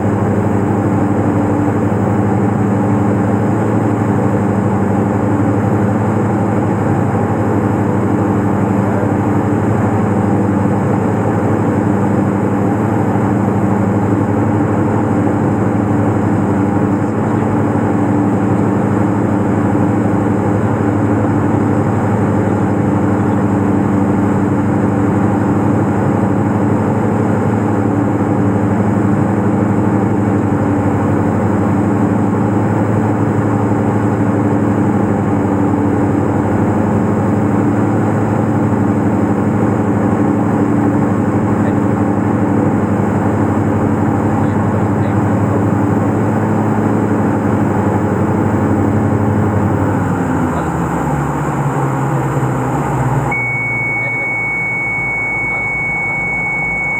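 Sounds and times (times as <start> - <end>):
aircraft engines droning in cabin: 0.0 - 56.9.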